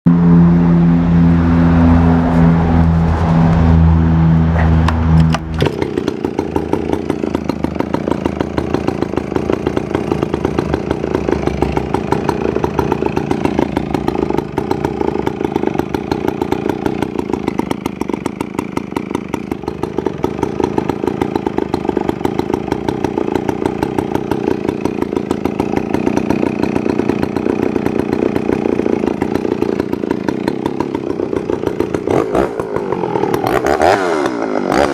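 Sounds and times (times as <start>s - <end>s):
chainsaw revving and idling: 4.2s - 34.9s.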